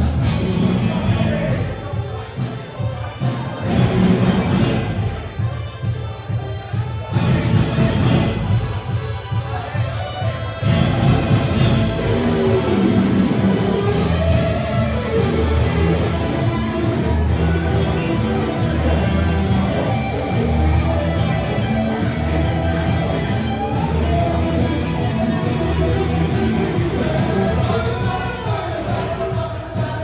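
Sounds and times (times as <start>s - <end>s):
live rock band playing: 0.0s - 5.7s, 7.1s - 30.0s.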